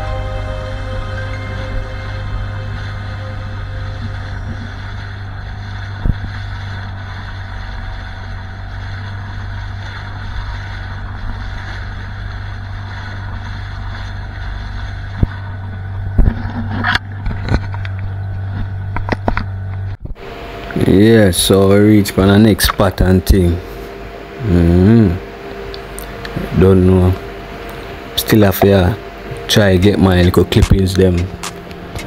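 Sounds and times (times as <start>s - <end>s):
motorboat engine drone: 0.0s - 32.0s.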